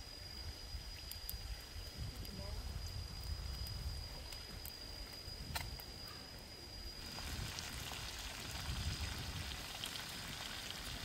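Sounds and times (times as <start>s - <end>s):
faint fire crackles: 0.0s - 11.0s
wok cooking hiss: 0.0s - 11.0s.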